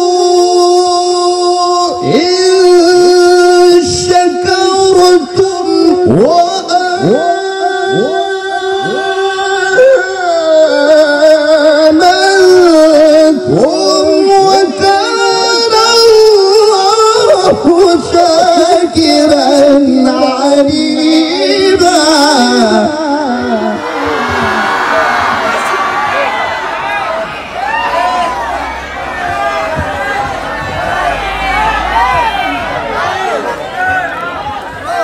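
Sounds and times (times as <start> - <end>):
man reciting melismatic chant: 0.0 - 35.0.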